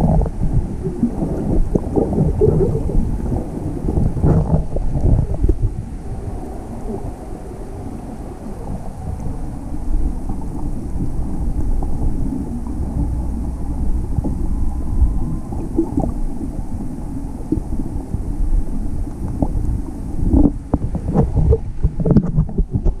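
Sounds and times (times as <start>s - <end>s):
underwater rumble of moving water: 0.0s - 23.0s.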